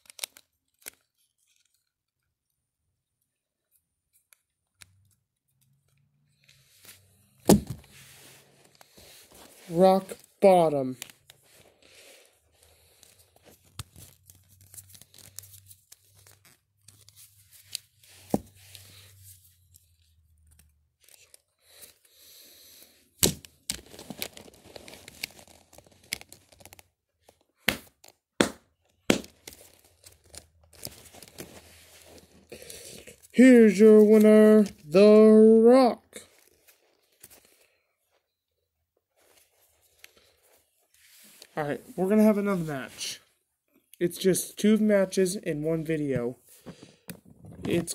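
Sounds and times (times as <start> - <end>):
plastic figures rustling and rubbing: 0.0 - 38.3, 38.9 - 44.3, 45.0 - 47.9.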